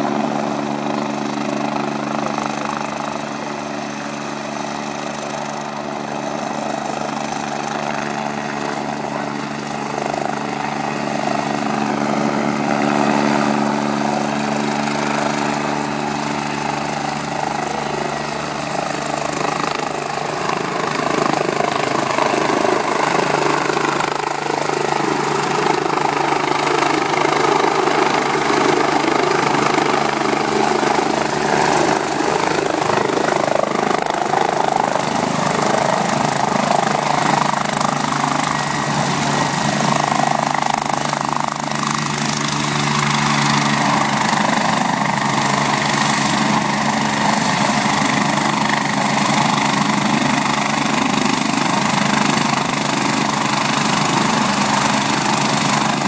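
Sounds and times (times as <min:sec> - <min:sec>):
helicopter turbines and rotors: 0:00.0 - 0:56.0.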